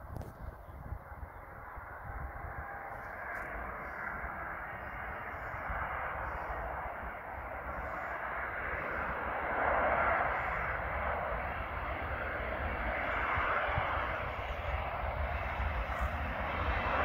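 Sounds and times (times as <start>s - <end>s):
distant jet engine rushing: 0.0s - 17.0s.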